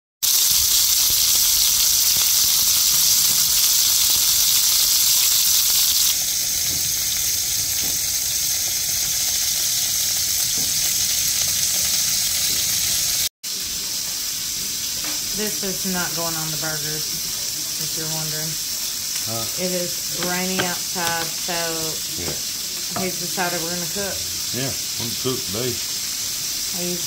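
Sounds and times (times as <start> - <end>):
patties sizzling in oil: 0.2 - 27.0.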